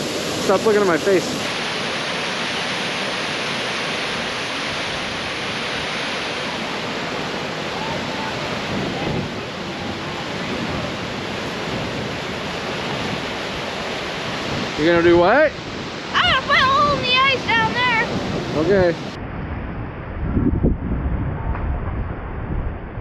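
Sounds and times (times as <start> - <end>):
waterfall rushing over rocks: 0.0 - 19.2.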